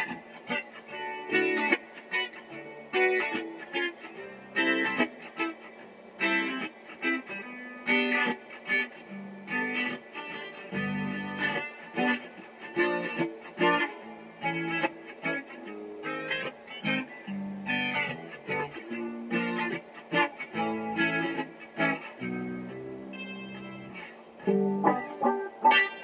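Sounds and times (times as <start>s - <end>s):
electric guitar playing: 0.0s - 26.0s.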